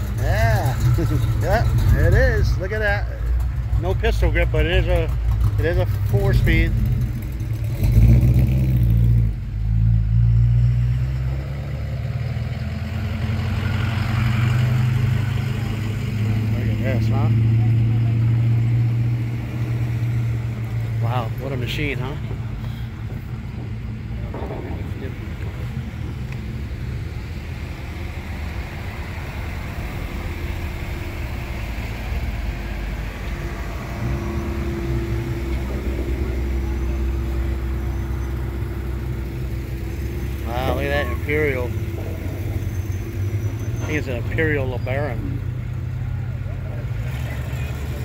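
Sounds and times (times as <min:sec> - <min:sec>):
car engine deep exhaust rumble: 0:00.0 - 0:48.0.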